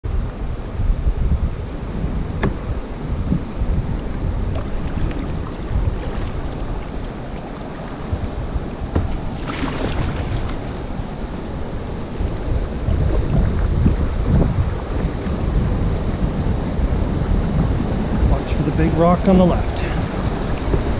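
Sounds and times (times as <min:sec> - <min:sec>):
wind buffeting microphone: 0:00.0 - 0:20.9
rapids rushing: 0:01.7 - 0:20.9.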